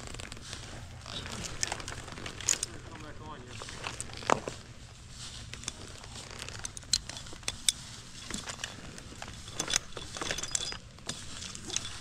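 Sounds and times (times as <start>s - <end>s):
rope and harness clicks and scrapes: 0.0s - 12.0s.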